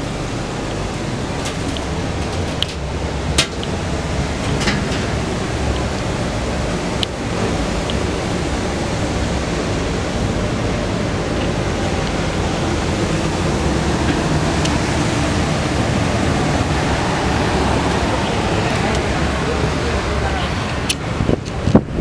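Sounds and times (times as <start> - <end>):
loud rushing noise: 0.0 - 22.0.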